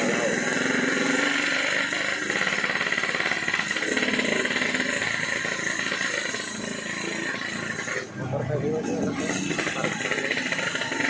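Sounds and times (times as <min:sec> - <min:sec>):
two-stroke motorcycle engine running: 0:00.0 - 0:11.0.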